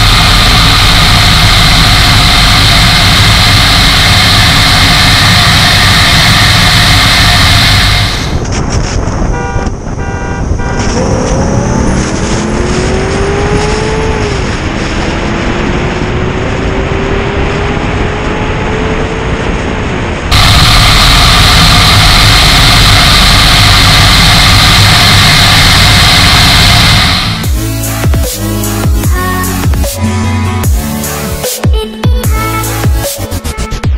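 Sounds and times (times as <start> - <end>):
steady rushing roar: 0.0 - 30.0
car engine at full throttle: 0.0 - 31.3.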